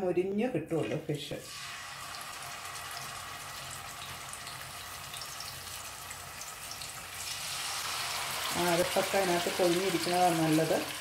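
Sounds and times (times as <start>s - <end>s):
fish sizzling in oil: 1.4s - 11.0s.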